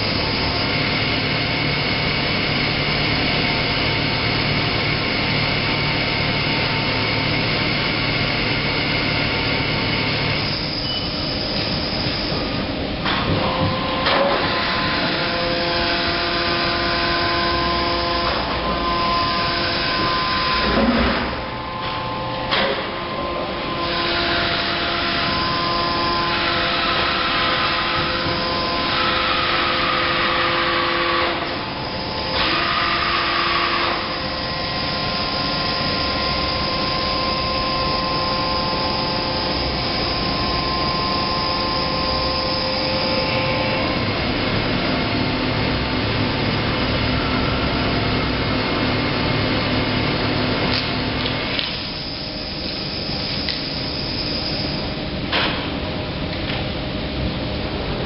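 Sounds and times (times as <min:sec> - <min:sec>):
crane motors whining: 0:00.0 - 0:58.0.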